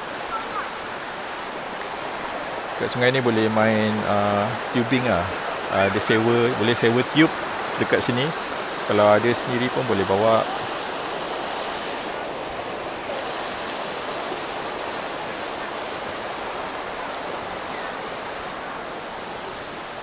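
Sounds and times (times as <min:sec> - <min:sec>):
river flowing over stones: 0:00.0 - 0:20.0.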